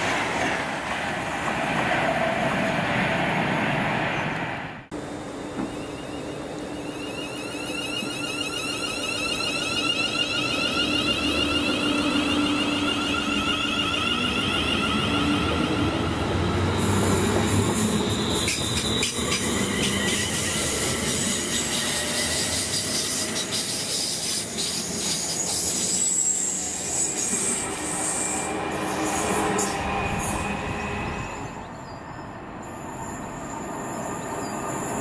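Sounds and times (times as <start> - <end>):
train high whine: 0.0 - 35.0
wheels rushing on rails: 0.0 - 35.0.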